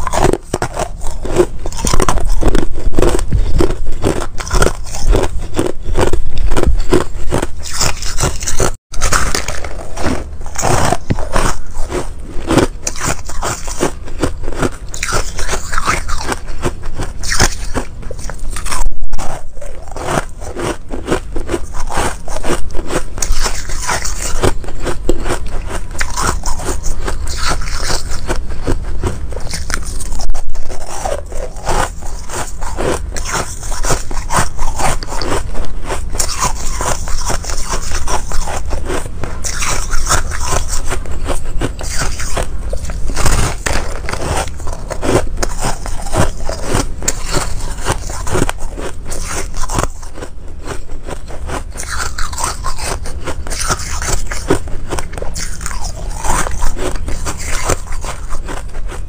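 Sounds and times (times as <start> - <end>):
crunching shaved ice: 0.0 - 59.0.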